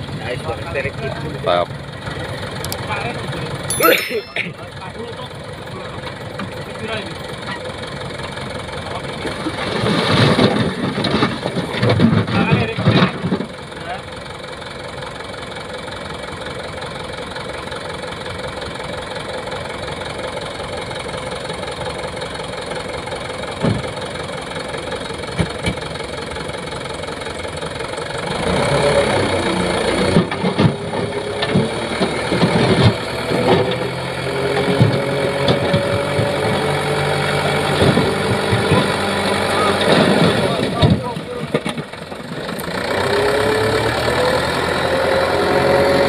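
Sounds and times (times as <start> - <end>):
diesel truck engine: 0.0 - 46.0.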